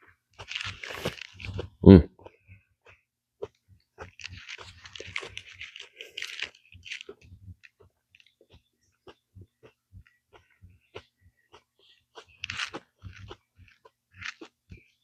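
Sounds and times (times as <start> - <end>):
wet crunchy chewing: 0.3 - 15.0.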